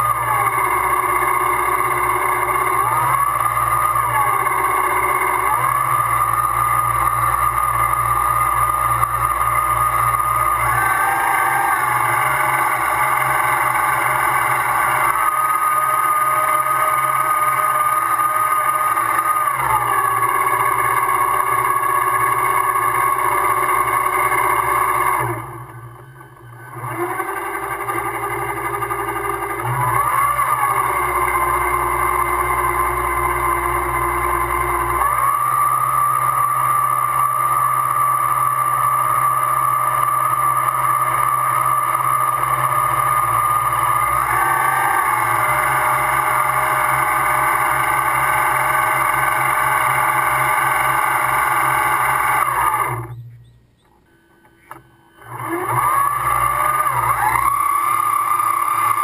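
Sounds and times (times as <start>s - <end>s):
low hum: 0.0s - 59.0s
model boat motor whining: 0.0s - 59.0s.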